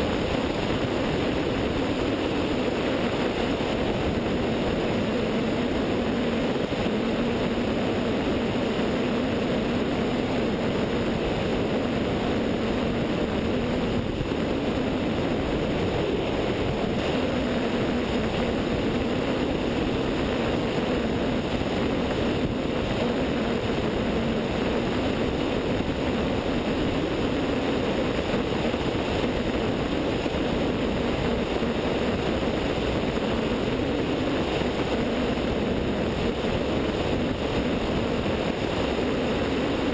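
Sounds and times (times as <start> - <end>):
light aircraft engine and propeller: 0.0 - 39.9
wind rush: 0.0 - 39.9.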